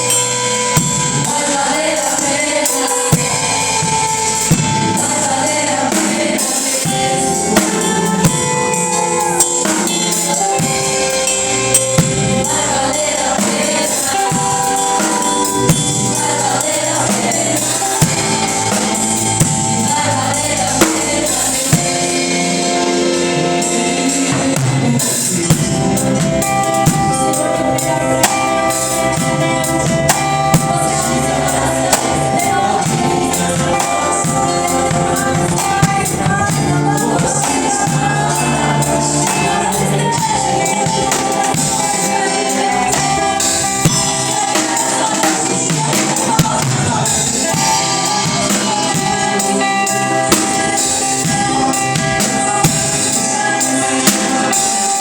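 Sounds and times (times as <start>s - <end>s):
sustained chords: 0.0s - 54.8s
drum kit beat: 0.0s - 55.0s.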